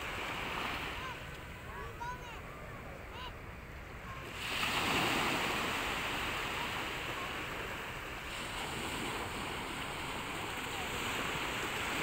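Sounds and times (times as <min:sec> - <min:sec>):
small waves washing onto beach: 0:00.0 - 0:12.0.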